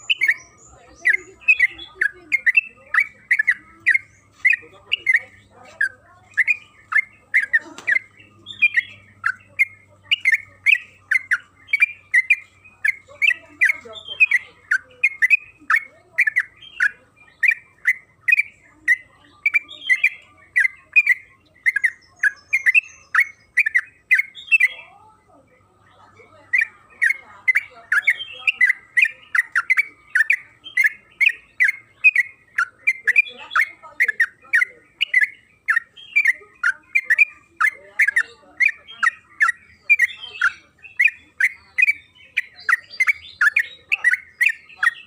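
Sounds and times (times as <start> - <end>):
bird chattering call: 0.0 - 45.0.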